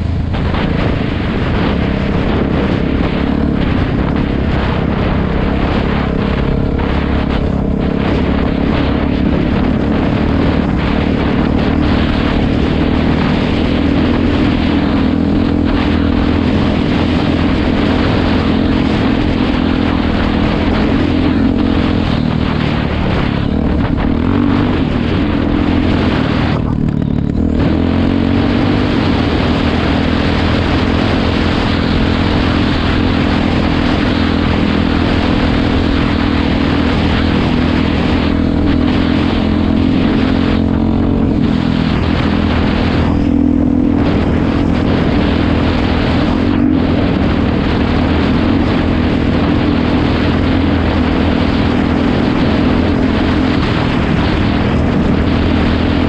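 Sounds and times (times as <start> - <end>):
dirt bike engine: 0.0 - 56.0.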